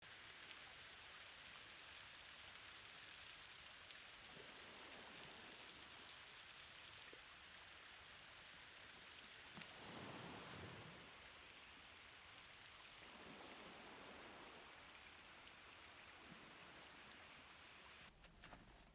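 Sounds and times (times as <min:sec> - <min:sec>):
faint steady outdoor hiss: 0:00.0 - 0:18.9.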